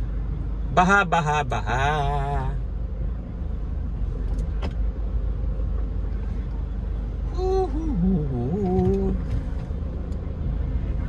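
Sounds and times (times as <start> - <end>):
car engine rumble and road noise: 0.0 - 11.0.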